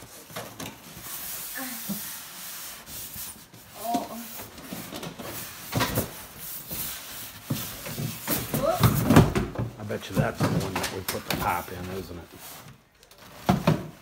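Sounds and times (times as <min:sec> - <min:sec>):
cardboard rustling: 0:00.0 - 0:14.0.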